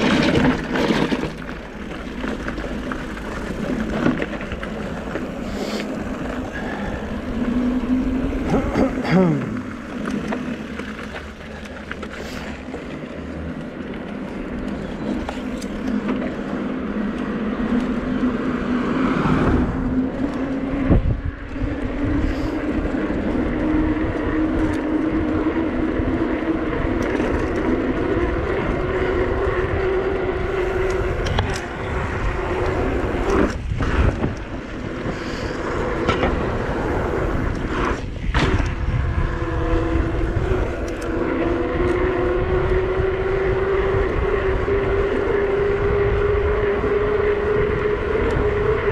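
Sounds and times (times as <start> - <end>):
electric bike drive whine: 0.0 - 48.9
wind and road rumble: 0.0 - 48.9.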